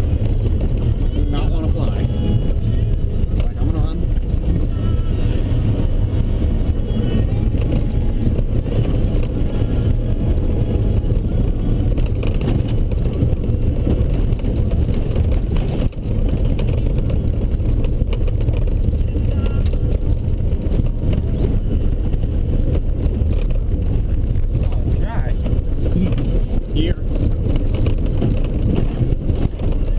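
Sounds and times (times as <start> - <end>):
truck engine and tyres rumbling: 0.0 - 29.9.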